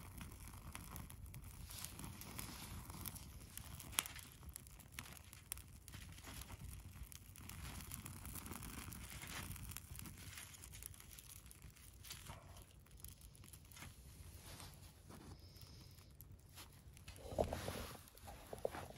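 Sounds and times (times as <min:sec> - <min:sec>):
campfire crackling: 0:00.0 - 0:18.9
fire popping: 0:00.0 - 0:18.9.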